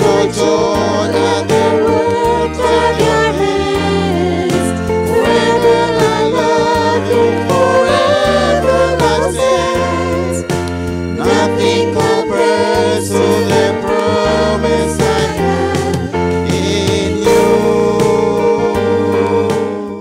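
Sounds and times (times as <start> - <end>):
group singing worship song: 0.0 - 20.0
instrumental accompaniment: 0.0 - 20.0.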